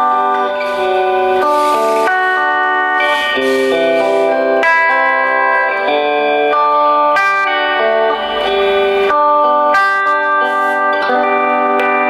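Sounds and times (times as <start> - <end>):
electric guitar melody: 0.0 - 12.0.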